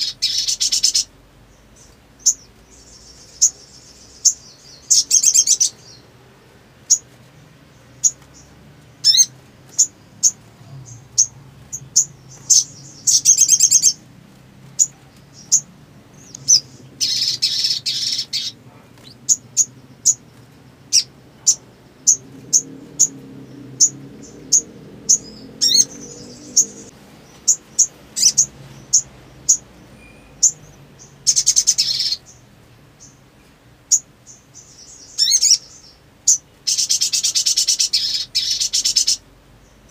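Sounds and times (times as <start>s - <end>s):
bird rapid trills: 0.0s - 6.0s, 7.7s - 32.4s, 33.9s - 39.2s.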